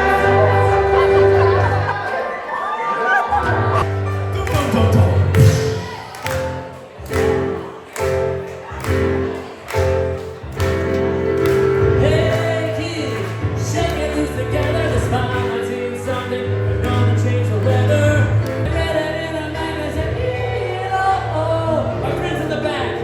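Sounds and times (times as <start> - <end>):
person singing: 0.0 - 2.1, 3.6 - 10.1, 11.2 - 23.0
amplified live music chords: 0.0 - 2.3, 3.4 - 23.0.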